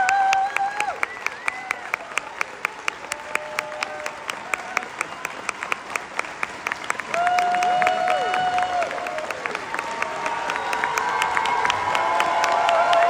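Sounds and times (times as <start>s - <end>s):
close sharp hand claps: 0.0s - 13.0s
large audience applauding: 0.0s - 13.0s.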